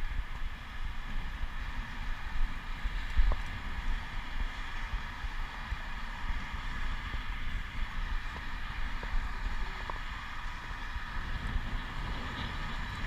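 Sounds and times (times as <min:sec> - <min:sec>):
steady hiss of bicycle ride: 0:00.0 - 0:13.0
wind buffeting microphone: 0:00.0 - 0:13.0.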